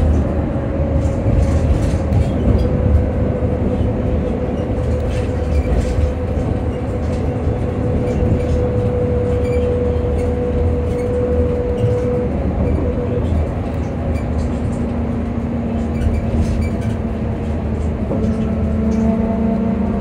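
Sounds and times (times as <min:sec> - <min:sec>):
road and body rumble: 0:00.0 - 0:20.0.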